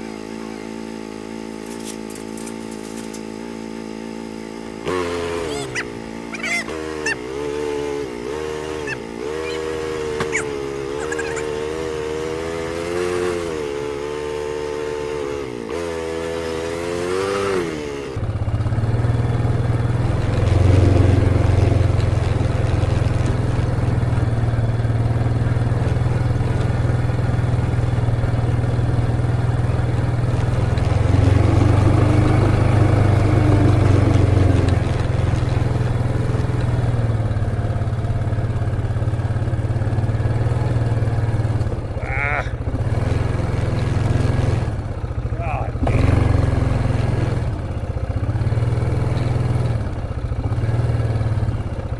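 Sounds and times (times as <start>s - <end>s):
vehicle engine running: 0.0s - 51.9s.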